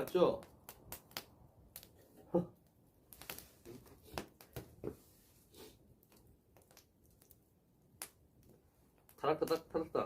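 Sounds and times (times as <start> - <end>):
bonfire crackling and popping: 0.0 - 10.0.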